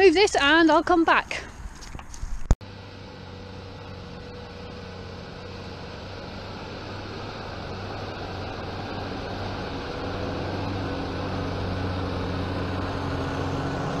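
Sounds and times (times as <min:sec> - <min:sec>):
tractor diesel engine droning: 0:02.6 - 0:14.0.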